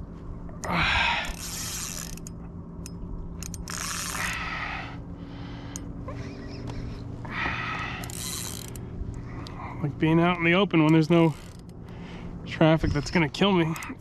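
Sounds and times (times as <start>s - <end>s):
steady low hum: 0.0s - 14.0s
fishing reel ratcheting and whirring: 0.6s - 12.0s, 12.7s - 14.0s.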